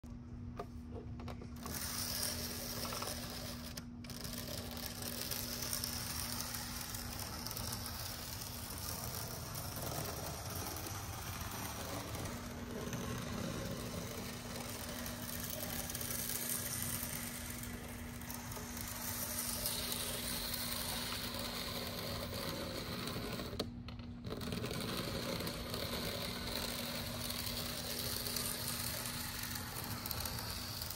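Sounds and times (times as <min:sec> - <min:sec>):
model train whirring and rattling: 0:01.5 - 0:30.9.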